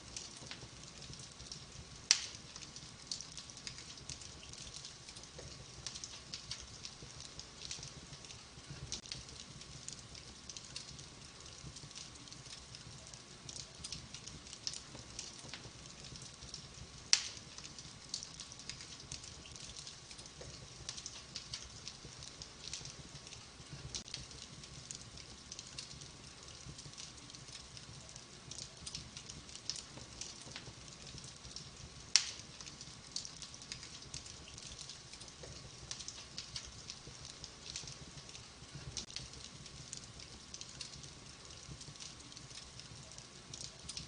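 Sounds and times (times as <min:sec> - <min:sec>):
fireplace fire crackling: 0:00.0 - 0:44.0
low fire rumble: 0:00.0 - 0:44.0.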